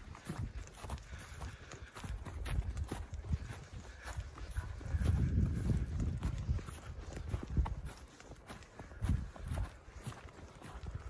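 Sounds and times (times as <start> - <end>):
footsteps crunching on snow: 0.0 - 11.0.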